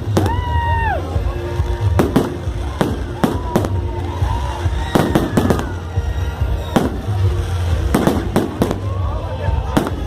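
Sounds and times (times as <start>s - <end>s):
fireworks banging: 0.0s - 10.0s
fireworks whistling: 1.5s - 10.0s.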